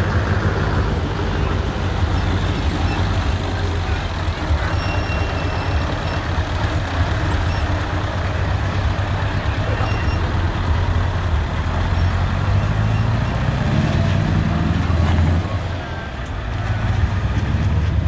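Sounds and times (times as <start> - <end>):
truck diesel engines rumbling: 0.0 - 18.0.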